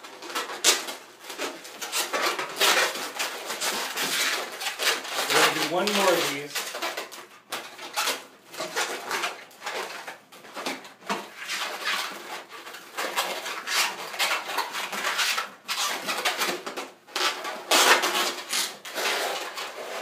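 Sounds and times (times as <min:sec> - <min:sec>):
balloons squeaking and rubbing: 0:00.0 - 0:20.0.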